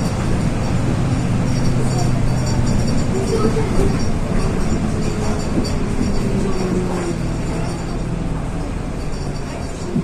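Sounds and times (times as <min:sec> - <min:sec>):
bus diesel engine running: 0:00.0 - 0:10.0
drivetrain whine: 0:00.0 - 0:10.0.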